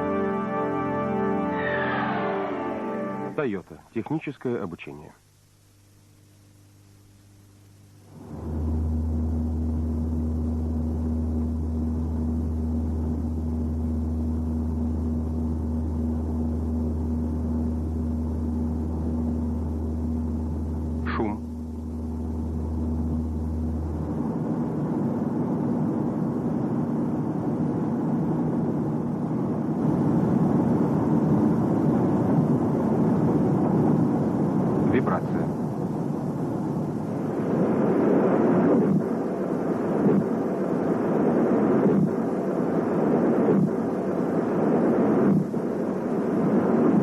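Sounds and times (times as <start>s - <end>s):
low rumbling drone: 0.0s - 3.5s, 8.0s - 47.0s
constant hum tone: 0.0s - 47.0s.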